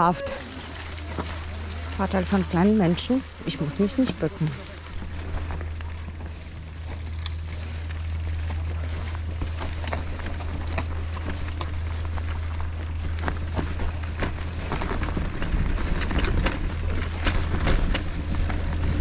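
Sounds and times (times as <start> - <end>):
bike clicking and rattling: 0.0 - 19.0
low rumble: 0.0 - 19.0.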